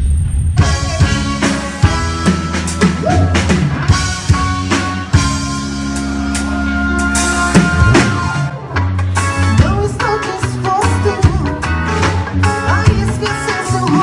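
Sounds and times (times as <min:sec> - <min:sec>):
bass: 0:00.0 - 0:14.0
drum kit beat: 0:00.4 - 0:14.0
sustained keyboard or guitar chords: 0:00.6 - 0:14.0.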